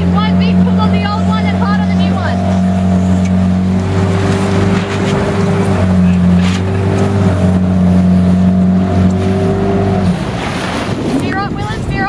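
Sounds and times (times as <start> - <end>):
outboard motor humming: 0.0 - 12.0
water noise: 0.0 - 12.0
wind: 0.0 - 12.0.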